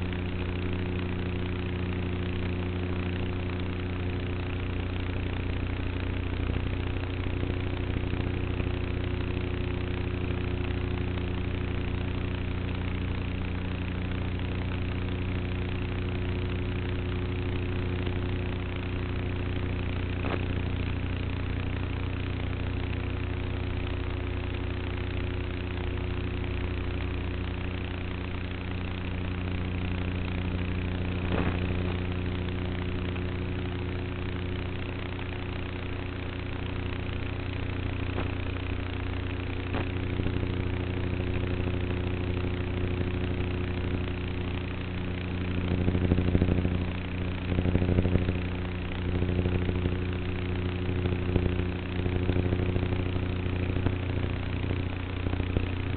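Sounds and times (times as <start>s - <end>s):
model plane motor humming: 0.0s - 55.9s.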